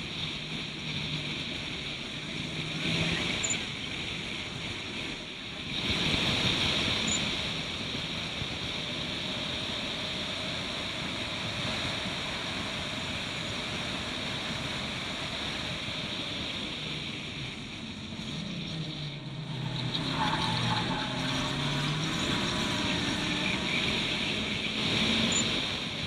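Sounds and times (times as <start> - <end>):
low engine hum: 0.0 - 26.0
race car running at speed: 0.0 - 26.0.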